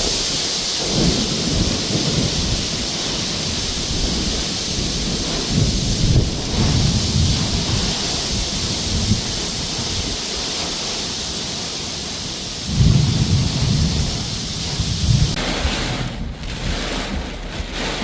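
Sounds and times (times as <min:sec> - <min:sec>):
heavy rain hissing: 0:00.0 - 0:18.0
wind buffeting microphone: 0:00.0 - 0:18.0.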